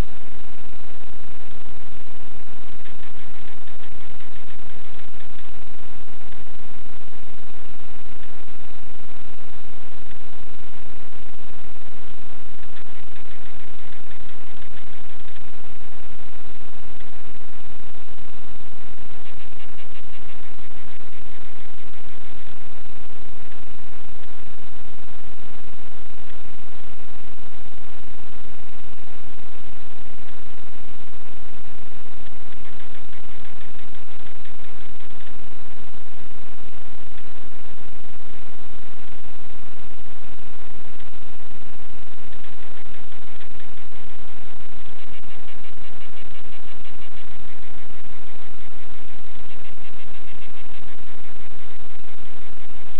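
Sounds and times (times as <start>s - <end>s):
faint buzz: 0.0s - 52.9s
loud static hiss: 0.0s - 52.9s.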